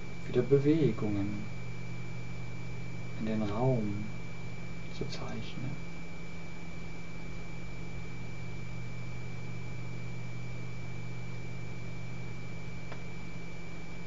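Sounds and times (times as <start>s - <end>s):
high steady whine: 0.0s - 14.0s
low electrical hum: 0.0s - 14.0s.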